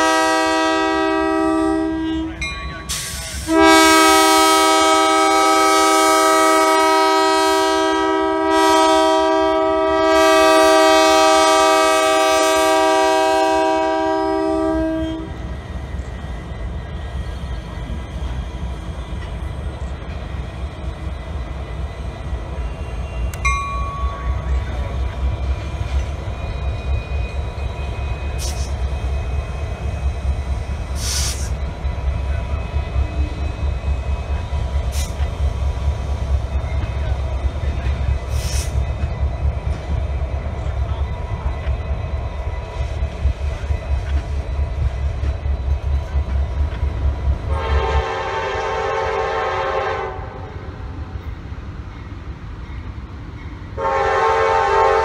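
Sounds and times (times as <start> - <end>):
freight train rumbling by: 0.0 - 55.0.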